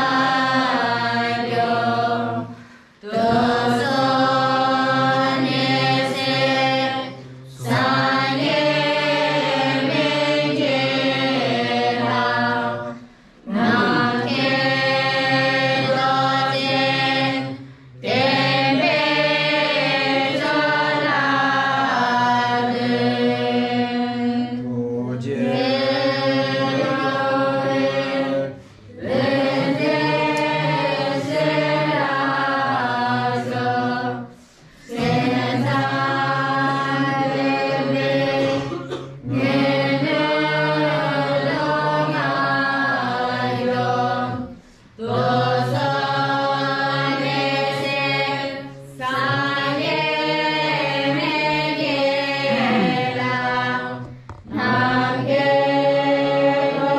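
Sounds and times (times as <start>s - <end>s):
group singing a hymn: 0.0s - 56.9s.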